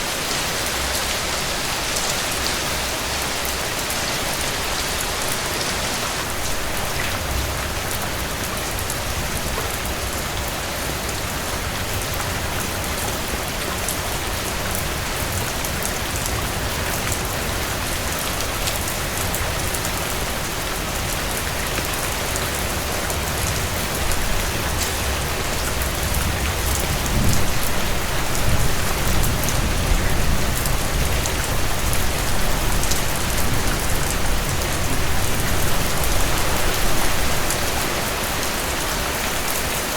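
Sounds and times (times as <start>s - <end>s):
heavy rain on a porch: 0.0s - 39.9s.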